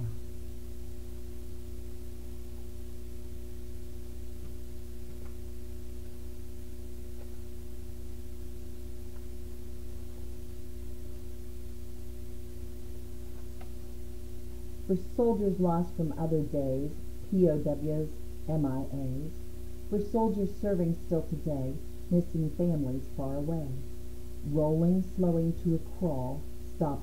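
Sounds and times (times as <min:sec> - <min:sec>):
low hum with held tones: 0:00.0 - 0:27.0.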